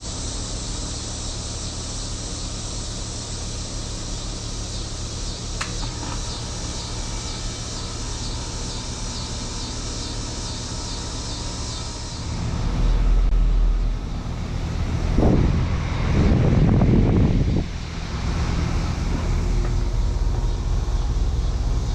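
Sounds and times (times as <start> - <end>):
heat pump humming and hissing: 0.0 - 21.9.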